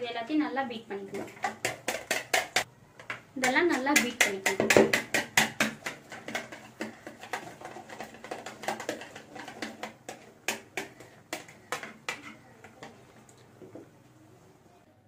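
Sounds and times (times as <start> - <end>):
spoon beating egg in plastic bowl: 1.1 - 13.8.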